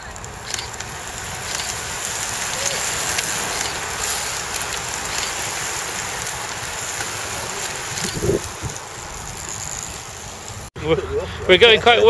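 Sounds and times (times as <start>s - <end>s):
faint clicks: 0.0s - 9.8s
wind rushing over microphone: 0.0s - 10.7s.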